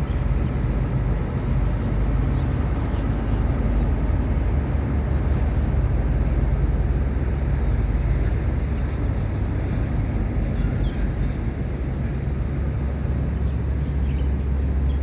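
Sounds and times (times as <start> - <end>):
boat engine low drone: 0.0 - 15.0.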